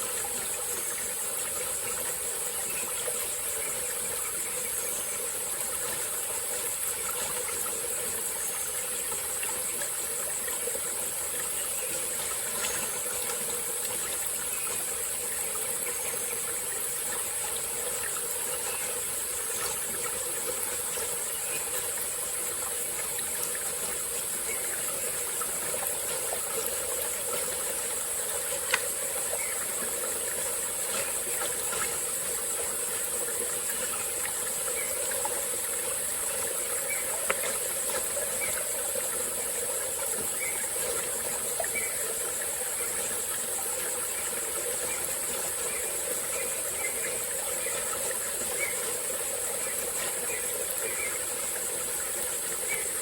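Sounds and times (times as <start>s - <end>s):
high-pitched insect chorus: 0.0s - 53.0s
stream running water: 0.0s - 53.0s.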